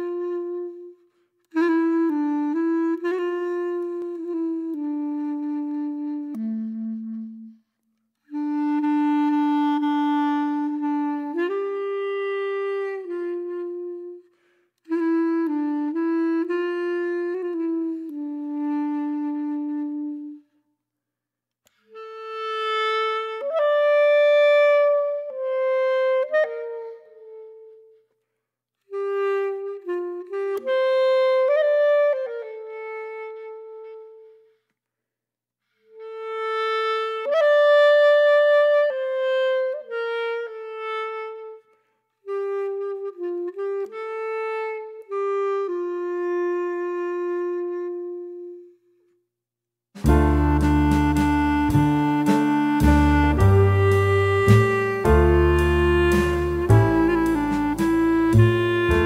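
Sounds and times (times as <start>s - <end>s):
solo woodwind melody: 0.0s - 20.7s, 21.6s - 34.8s, 35.7s - 49.3s, 50.0s - 59.0s.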